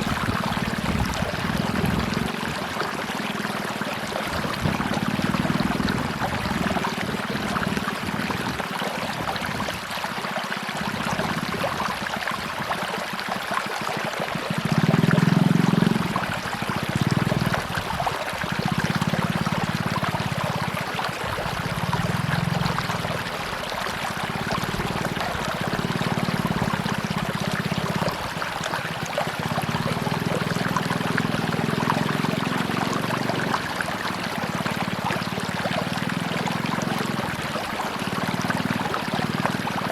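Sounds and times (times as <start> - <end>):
river water rushing and splashing: 0.0 - 39.9.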